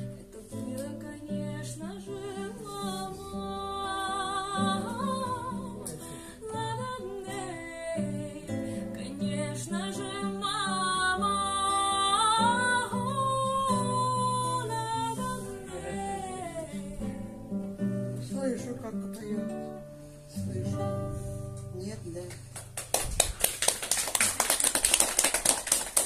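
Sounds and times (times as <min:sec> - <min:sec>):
strummed acoustic guitar: 0:00.0 - 0:22.8.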